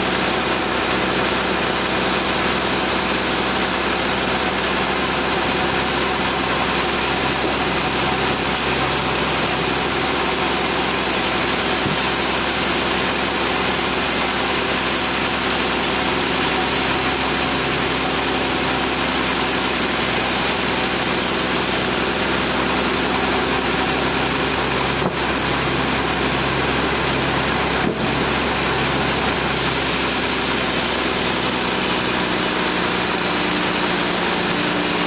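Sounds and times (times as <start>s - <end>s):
sawmill machinery hum: 0.0s - 35.0s.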